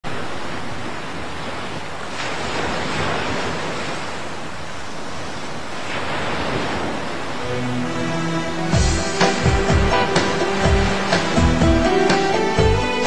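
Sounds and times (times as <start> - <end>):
rushing surf-like noise: 0.1 - 13.0.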